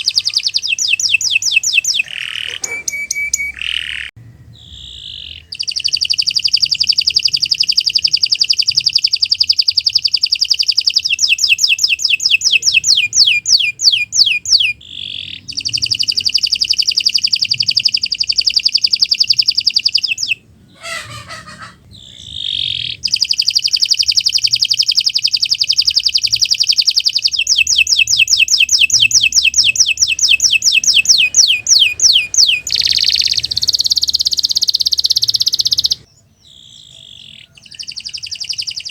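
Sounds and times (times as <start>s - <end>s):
canary singing rolling trills: 0.0s - 38.9s.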